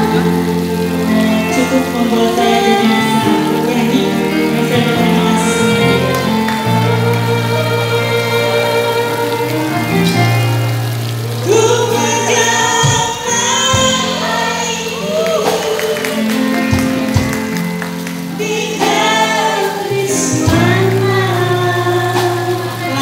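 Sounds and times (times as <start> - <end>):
woman singing into microphone: 0.0 - 9.3, 11.4 - 23.0
band playing: 0.0 - 23.0.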